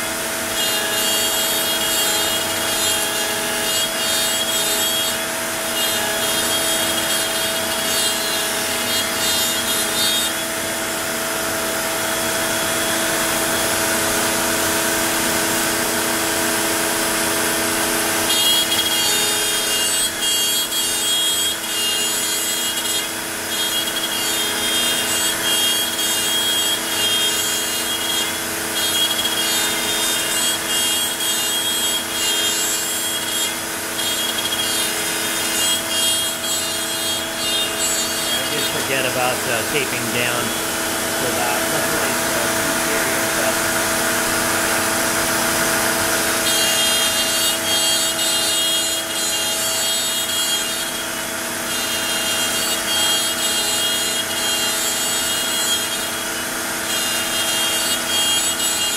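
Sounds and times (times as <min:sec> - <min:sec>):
router spindle whining: 0:00.0 - 0:58.9.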